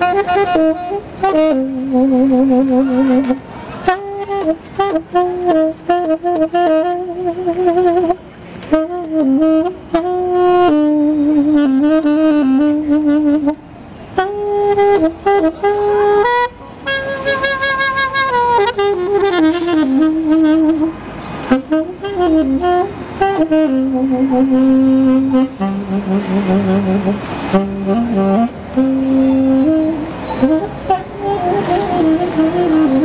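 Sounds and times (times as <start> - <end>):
solo saxophone melody: 0.0 - 33.0.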